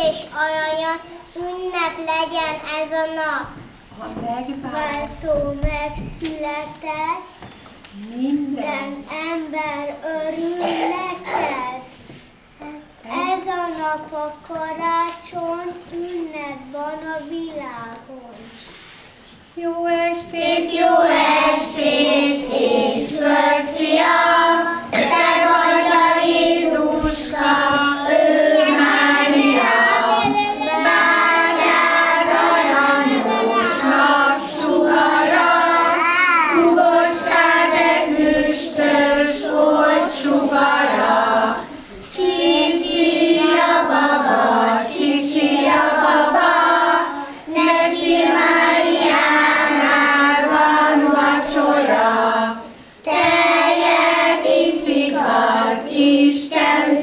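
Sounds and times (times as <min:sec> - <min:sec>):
children singing together: 0:00.0 - 0:03.3, 0:08.6 - 0:17.9, 0:20.1 - 0:57.0.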